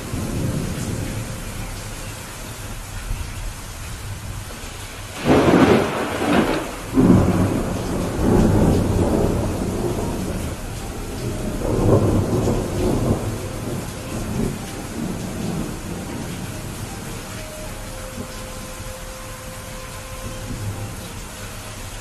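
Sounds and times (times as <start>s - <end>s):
rolling thunder: 0.0s - 21.4s
steady rain: 0.0s - 22.0s.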